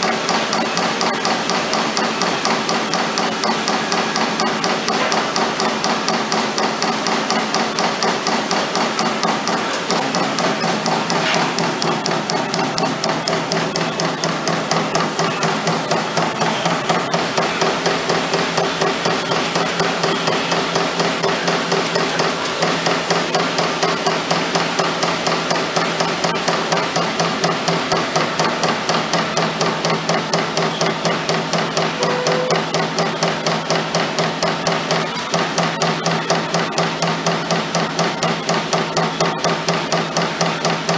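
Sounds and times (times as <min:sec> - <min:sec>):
machine hum: 0:00.0 - 0:40.9
punch press hitting sheet metal: 0:00.0 - 0:40.9.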